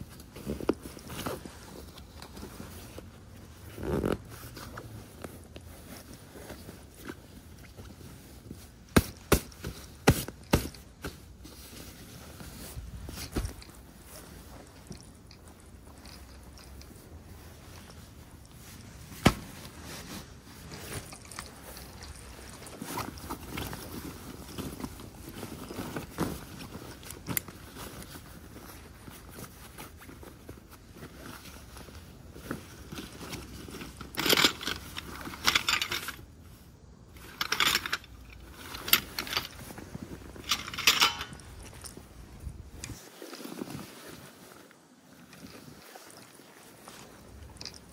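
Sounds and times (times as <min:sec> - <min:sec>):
fabric rustling: 0:00.0 - 0:47.9
straps being pulled: 0:00.0 - 0:47.9.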